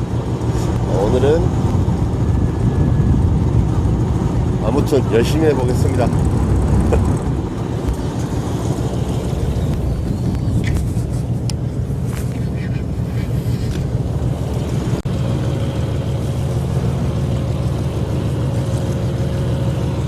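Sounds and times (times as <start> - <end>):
boat engine running: 0.0 - 20.0
higher steady hum: 0.0 - 20.0.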